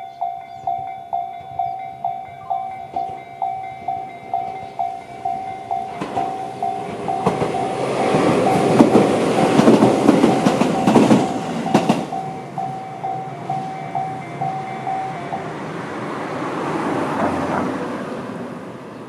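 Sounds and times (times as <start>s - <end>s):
crossing warning bell dinging: 0.0s - 18.4s
wheels clacking over rail joints: 0.5s - 18.4s.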